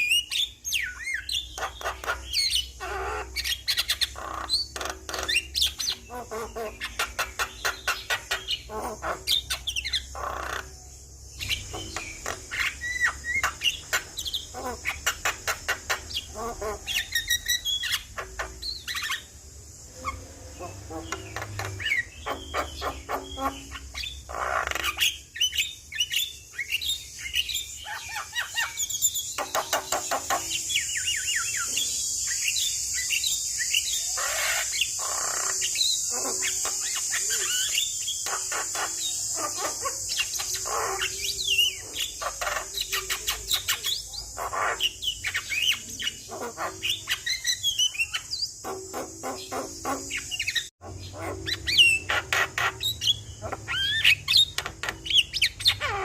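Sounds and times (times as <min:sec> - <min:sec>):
bird singing chirps and whistles: 0:00.0 - 0:10.7, 0:11.3 - 0:19.4, 0:20.0 - 0:56.0.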